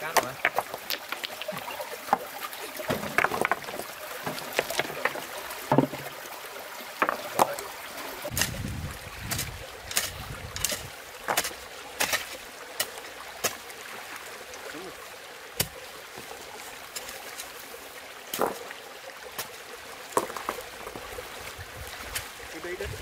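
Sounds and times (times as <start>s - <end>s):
running stream water: 0.0s - 23.0s.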